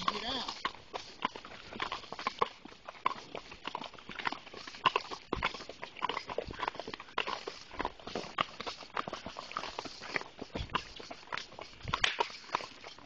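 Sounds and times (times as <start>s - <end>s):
hooves walking on gravel: 0.0s - 13.0s.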